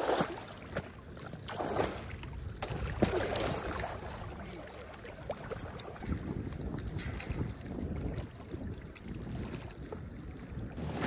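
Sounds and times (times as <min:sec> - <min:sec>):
water sloshing around waders: 0:00.0 - 0:10.5.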